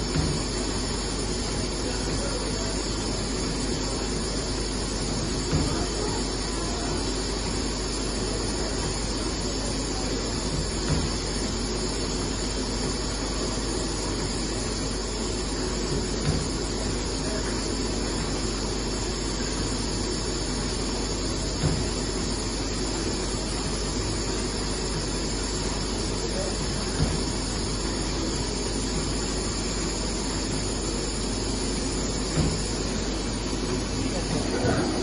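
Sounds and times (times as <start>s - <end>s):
shrink wrap machine hissing: 0.0s - 35.0s.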